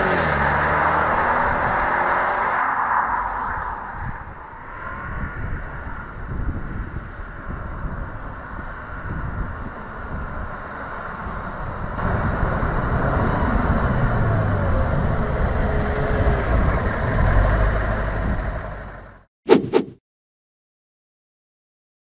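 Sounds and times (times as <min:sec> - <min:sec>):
car engine rumbling: 0:00.0 - 0:19.2.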